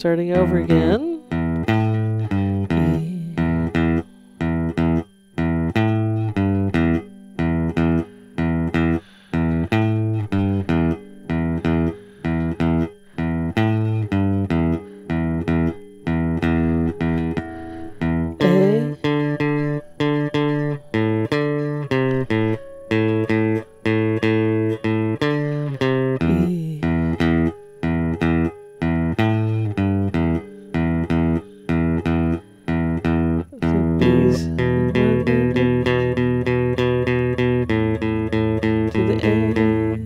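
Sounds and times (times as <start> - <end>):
electric guitar blues riff: 0.0 - 40.0.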